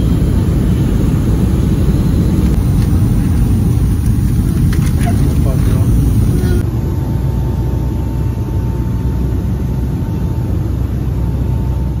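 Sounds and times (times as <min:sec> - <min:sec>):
airliner engine and airflow rumble: 0:00.0 - 0:12.0
faint steady whine: 0:00.0 - 0:12.0.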